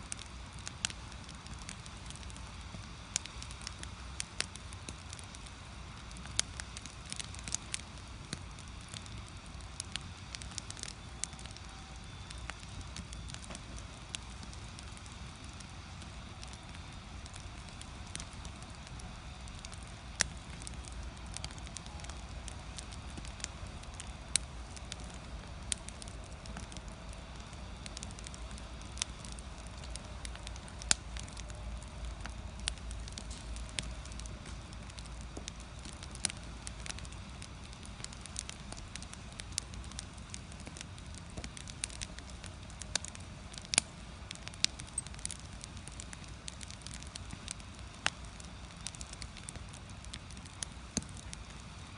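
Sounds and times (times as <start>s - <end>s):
firewood crackling and popping: 0.0s - 51.9s
low fire rumble: 0.0s - 51.9s.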